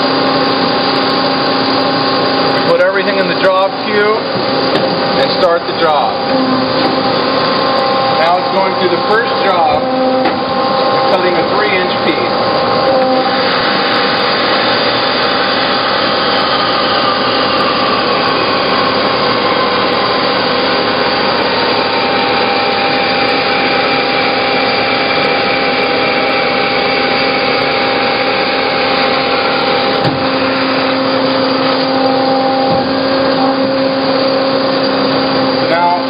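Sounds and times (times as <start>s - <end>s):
bandsaw cutting metal whine: 0.0s - 36.0s.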